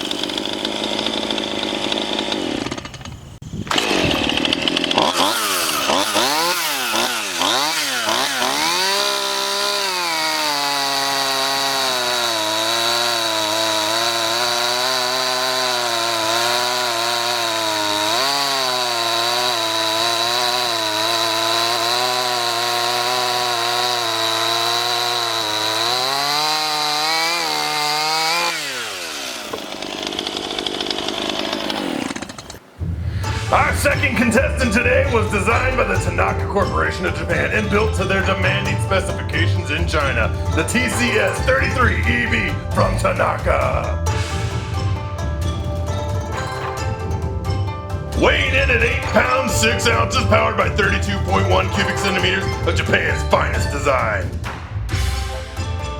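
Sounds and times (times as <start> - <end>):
chainsaw engine revving: 0.0 - 55.7
chainsaw cutting wood: 0.0 - 55.9.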